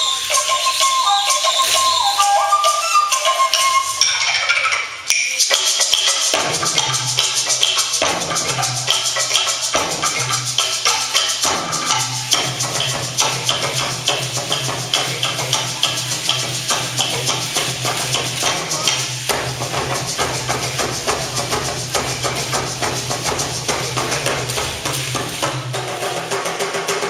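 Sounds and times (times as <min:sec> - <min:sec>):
rattling clicking percussion: 0:00.0 - 0:27.0.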